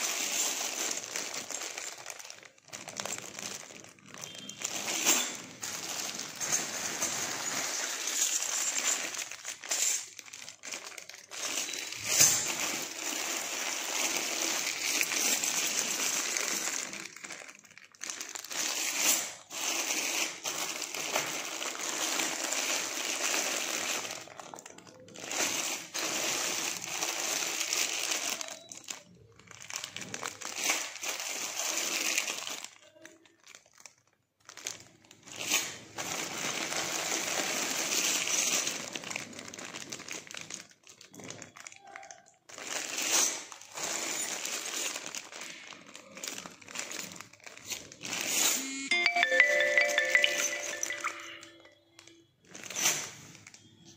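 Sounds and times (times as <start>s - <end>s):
plastic bags crinkling: 0.0s - 48.4s, 49.0s - 53.9s.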